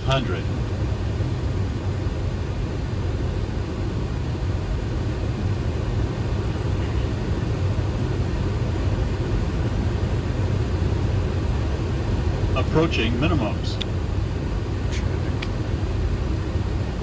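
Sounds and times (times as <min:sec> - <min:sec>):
airplane cockpit rush of air: 0:00.0 - 0:17.0.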